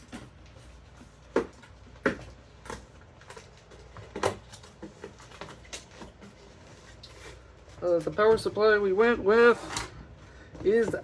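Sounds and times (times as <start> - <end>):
objects knocking and clunking: 0.0 - 11.0.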